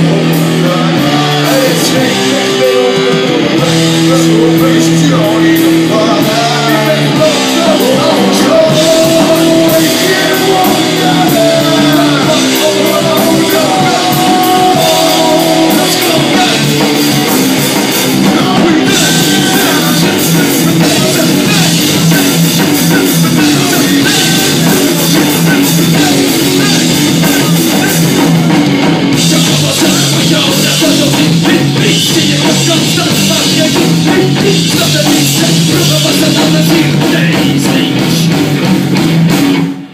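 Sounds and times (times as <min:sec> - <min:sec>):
person singing: 0:00.0 - 0:28.5, 0:29.1 - 0:38.4
drum kit: 0:00.0 - 0:39.9
electric guitar: 0:00.0 - 0:39.9.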